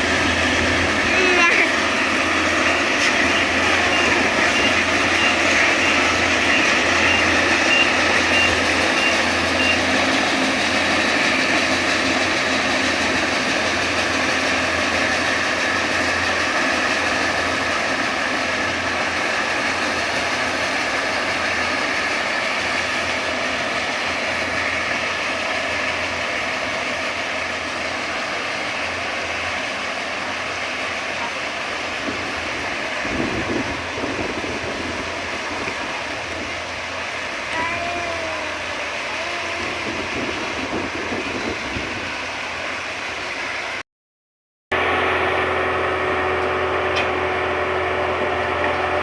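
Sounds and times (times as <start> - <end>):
combine harvester running: 0.0 - 43.8, 44.7 - 49.0.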